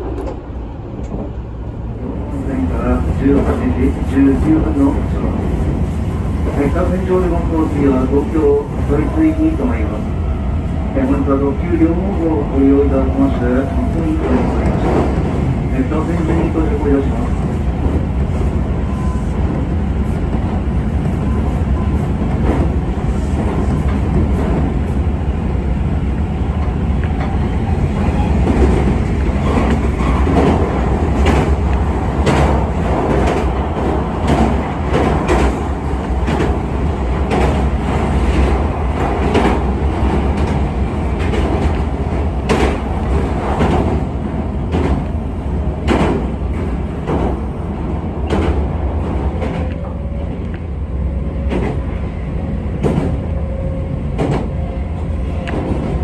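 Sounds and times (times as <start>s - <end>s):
train passing on next track: 0.0s - 56.0s
train wheels rumbling: 0.0s - 56.0s.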